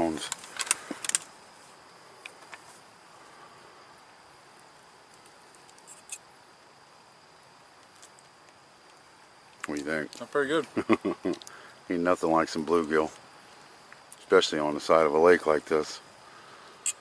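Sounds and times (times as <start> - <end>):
high insect trill: 0.0 - 17.0
low background hiss: 0.0 - 17.0.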